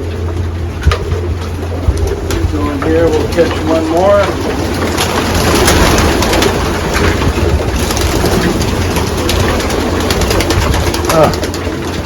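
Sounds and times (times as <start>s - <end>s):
low hum: 0.0s - 12.0s
pigeons cooing: 0.0s - 12.0s
wings fluttering: 0.0s - 12.0s.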